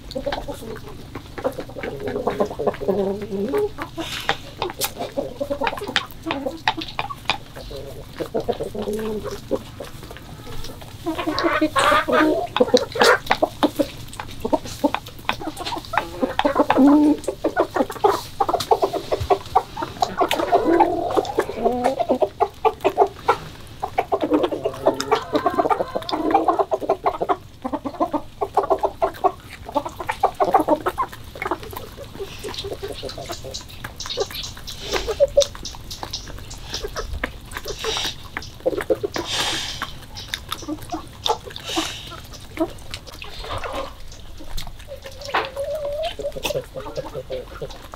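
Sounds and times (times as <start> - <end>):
beaks pecking on concrete: 0.0 - 47.9
chickens clucking: 0.0 - 47.9.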